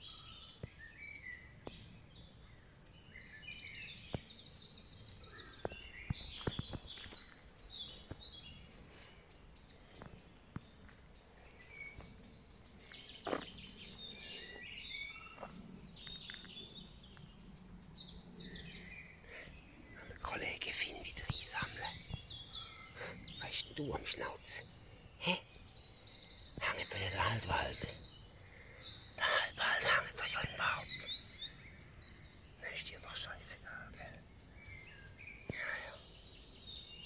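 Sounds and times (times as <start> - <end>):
songbirds singing and chirping: 0.0 - 37.0.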